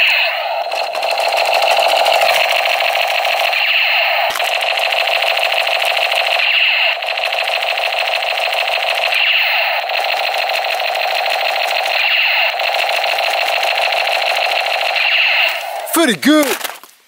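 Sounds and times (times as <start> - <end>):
toy gun electronic rapid-fire: 0.0 - 16.0.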